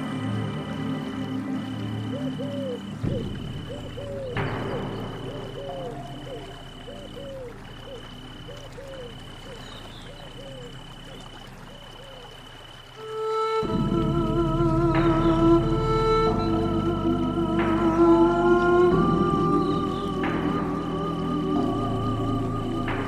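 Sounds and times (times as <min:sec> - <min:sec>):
soft music: 0:00.0 - 0:11.9, 0:12.9 - 0:23.0.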